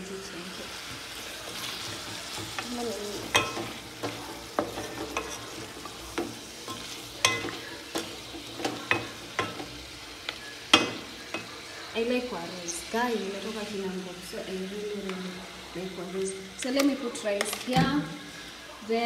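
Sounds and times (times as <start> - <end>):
stew sizzling: 0.0 - 19.0.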